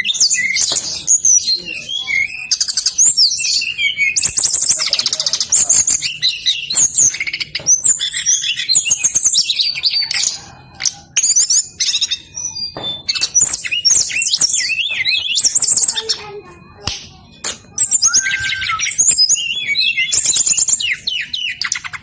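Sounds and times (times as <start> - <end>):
bird singing trills: 0.0 - 22.0.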